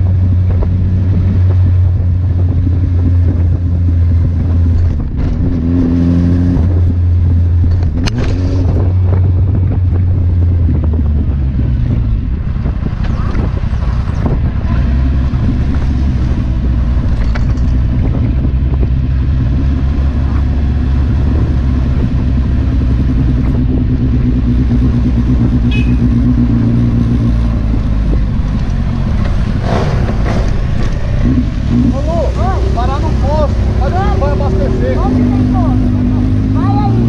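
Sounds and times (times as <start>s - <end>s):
motorcycle engine running: 6.7s - 37.0s.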